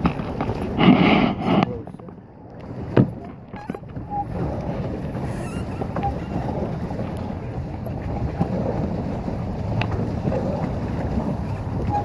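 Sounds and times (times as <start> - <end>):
water churning and lapping: 0.0 - 12.0
wind rumble on microphone: 0.0 - 12.0.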